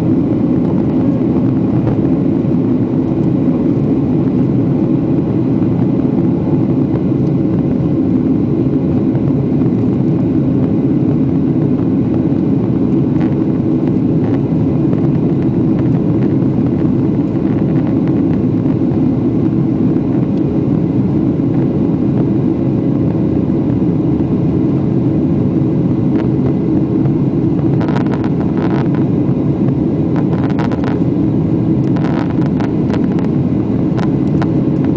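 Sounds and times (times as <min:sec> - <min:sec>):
jet engine and airflow noise: 0:00.0 - 0:34.9.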